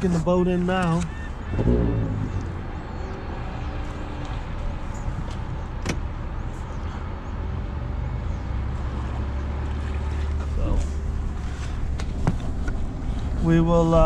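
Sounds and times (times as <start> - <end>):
truck engine rumble: 0.0 - 14.0.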